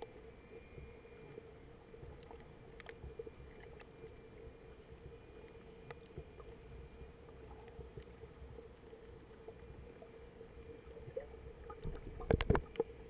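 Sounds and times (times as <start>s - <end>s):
low underwater rumble and hum: 0.0s - 13.0s
crackling clicks: 1.2s - 9.9s, 10.8s - 13.0s.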